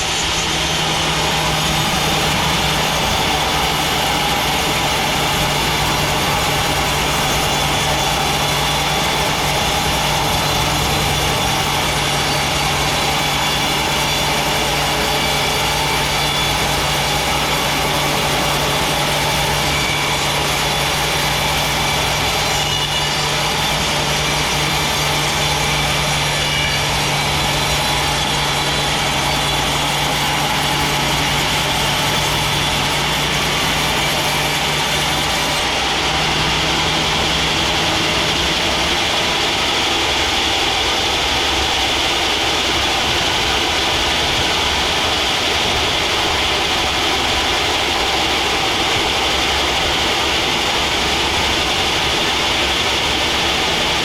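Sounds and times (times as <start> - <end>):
sawmill low hum: 0.0 - 54.0.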